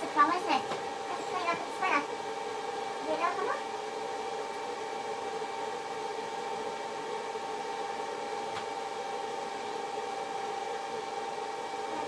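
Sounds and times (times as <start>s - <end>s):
fan or motor hum: 0.0s - 12.0s.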